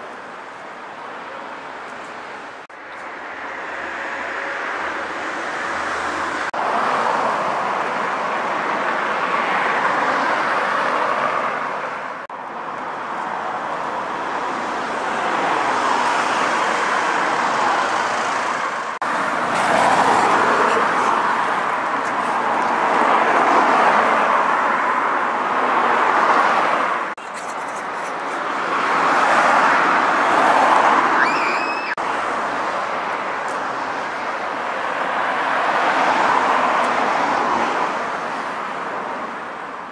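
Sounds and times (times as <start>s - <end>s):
cars passing on road: 0.0s - 39.9s.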